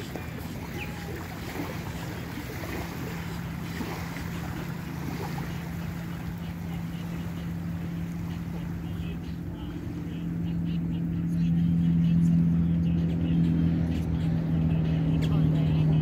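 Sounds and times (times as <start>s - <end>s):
low engine drone: 0.0s - 16.0s
small waves lapping: 0.0s - 16.0s.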